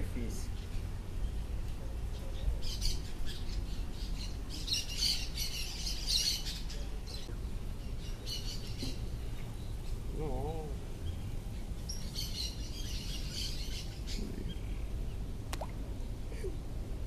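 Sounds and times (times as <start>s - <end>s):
birds squawking and chirping: 0.2s - 15.3s.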